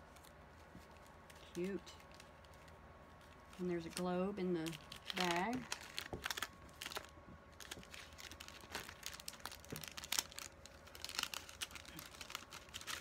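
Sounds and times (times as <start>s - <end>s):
paper rustling: 0.0s - 13.0s
plastic bags crinkling: 0.0s - 13.0s.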